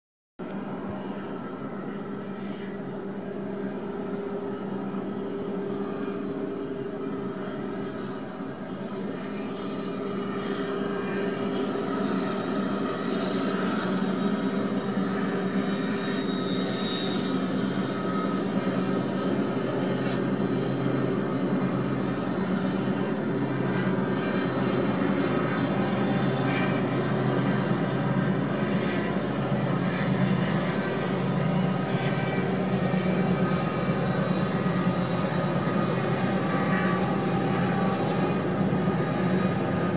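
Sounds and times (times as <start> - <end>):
diesel locomotives engine drone: 0.4 - 39.9.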